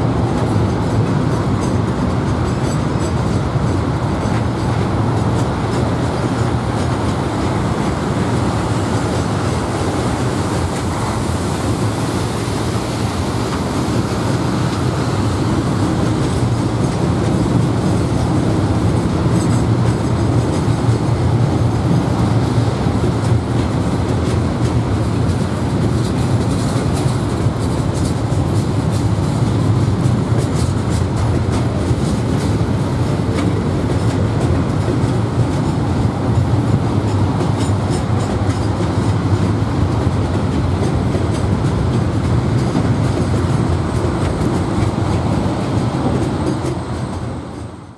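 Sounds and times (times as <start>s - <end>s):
freight train rumbling past: 0.0s - 47.9s
train wheel clicks: 0.0s - 47.9s.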